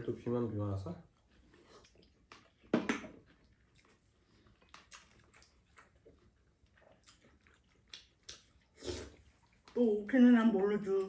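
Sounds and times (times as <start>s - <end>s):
faint chewing: 1.0s - 11.0s.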